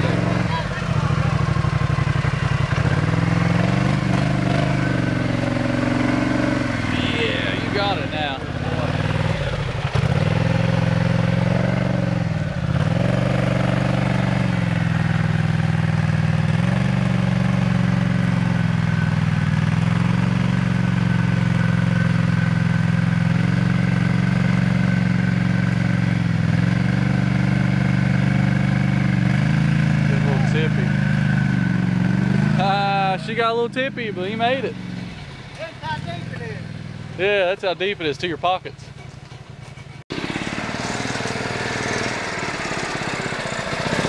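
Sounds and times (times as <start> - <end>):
tractor engine running at high throttle: 0.0 - 44.0.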